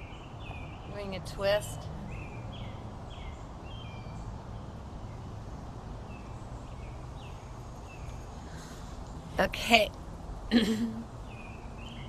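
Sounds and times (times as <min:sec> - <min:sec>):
birds chirping: 0:00.0 - 0:09.9, 0:10.5 - 0:12.0
background hiss: 0:00.0 - 0:12.0.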